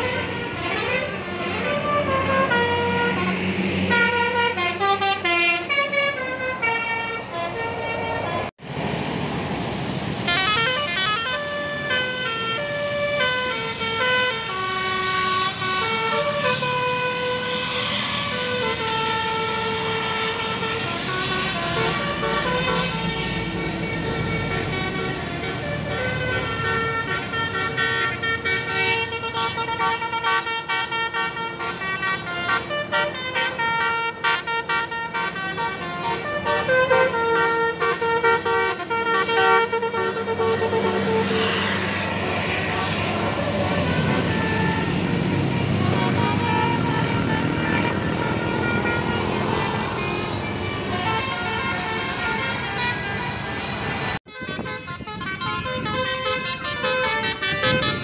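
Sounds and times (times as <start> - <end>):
bus horn playing melody: 0.0 - 8.5, 10.2 - 58.0.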